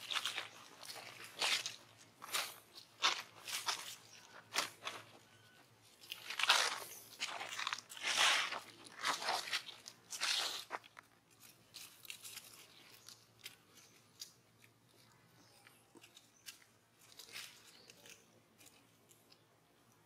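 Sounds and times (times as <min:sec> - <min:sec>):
dry leaves crunching: 0:00.0 - 0:15.0, 0:15.9 - 0:19.2.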